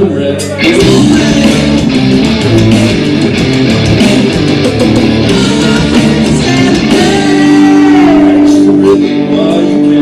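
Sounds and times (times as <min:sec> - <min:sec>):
live rock band playing: 0:00.4 - 0:10.0.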